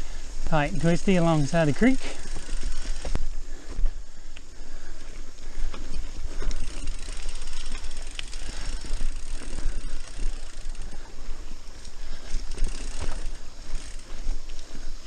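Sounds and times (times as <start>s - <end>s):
bike tyres rolling on dirt: 0.0s - 15.0s
bike rattling and clicking: 0.6s - 15.0s.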